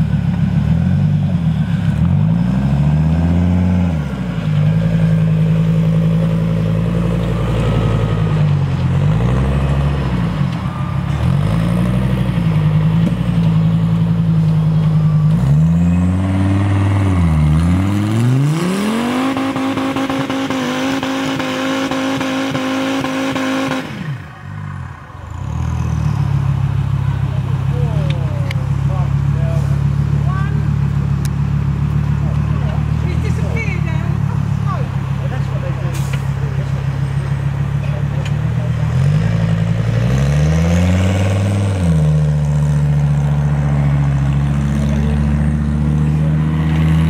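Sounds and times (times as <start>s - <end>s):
buggy engine revving: 0.0s - 47.0s.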